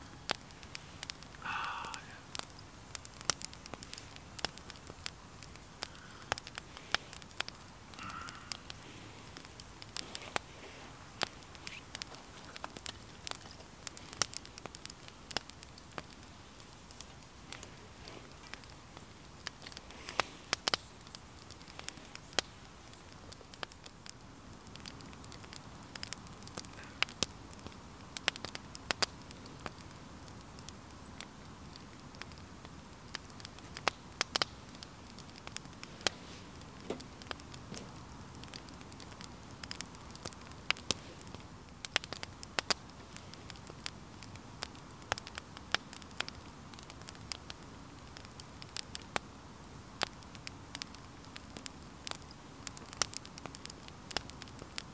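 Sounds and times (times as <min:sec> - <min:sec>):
faint steady hiss: 0:00.0 - 0:54.9
wood fire crackling: 0:00.0 - 0:54.9.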